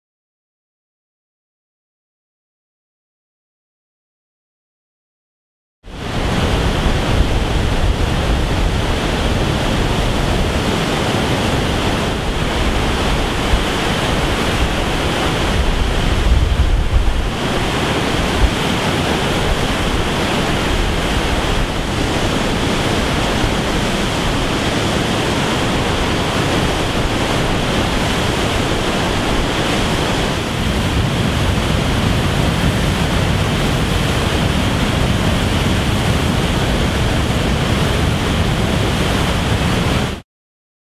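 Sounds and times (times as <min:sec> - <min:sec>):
whitewater rushing over spillway: 0:05.9 - 0:40.2
wind buffeting microphone: 0:05.9 - 0:40.2.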